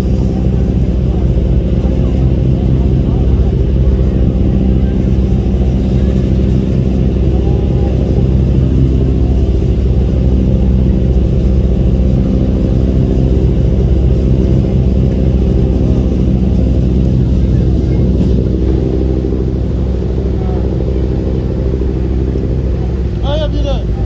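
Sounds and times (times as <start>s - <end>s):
ship engines droning: 0.0s - 24.0s.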